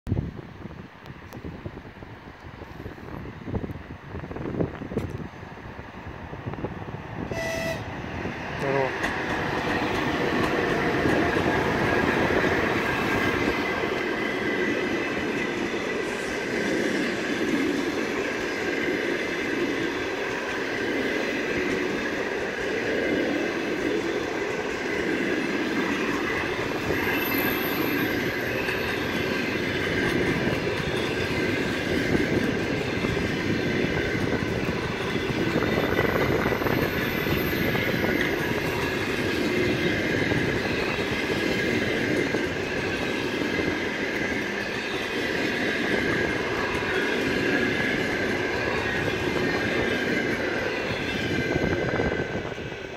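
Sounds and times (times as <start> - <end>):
train wheels rumbling and clattering: 7.9 - 52.9.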